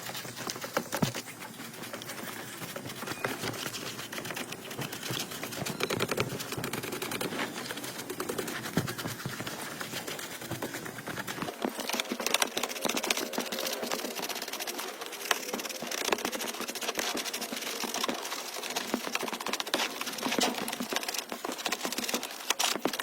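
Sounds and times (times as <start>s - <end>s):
small hard objects clicking: 0.0s - 23.0s.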